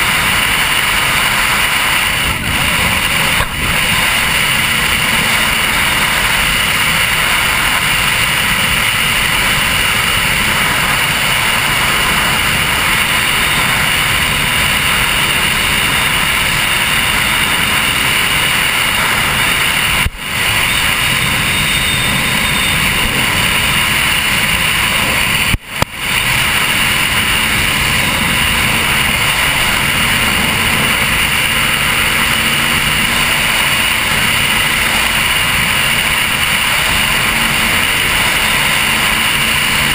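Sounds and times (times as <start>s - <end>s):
powerboat engine roaring: 0.0s - 39.9s
wind on camera: 0.0s - 39.9s.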